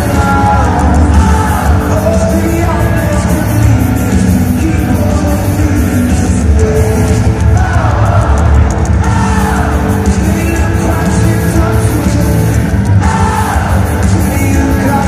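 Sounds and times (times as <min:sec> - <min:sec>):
live pop-rock band: 0:00.0 - 0:15.0
person singing: 0:00.0 - 0:15.0.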